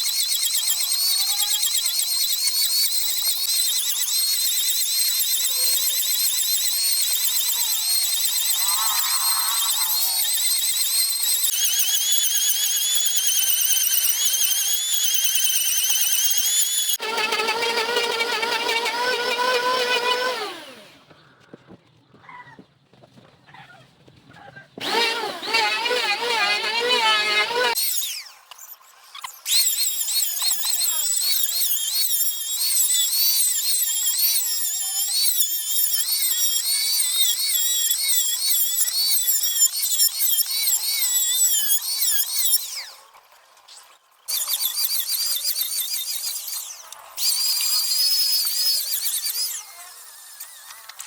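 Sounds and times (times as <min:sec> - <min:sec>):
electric power tool cutting wood: 0:00.0 - 0:21.0, 0:24.8 - 0:51.0.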